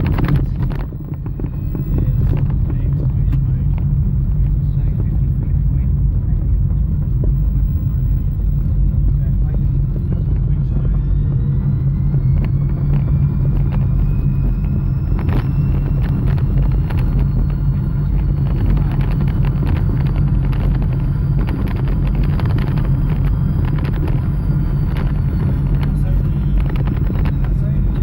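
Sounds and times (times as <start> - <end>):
electric motor whine: 0.0 - 28.0
rattles and clicks: 0.0 - 28.0
road rumble: 0.0 - 28.0.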